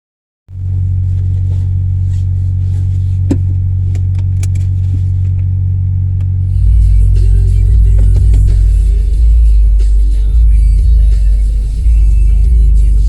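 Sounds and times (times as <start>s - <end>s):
car exhaust idling: 0.5s - 13.0s.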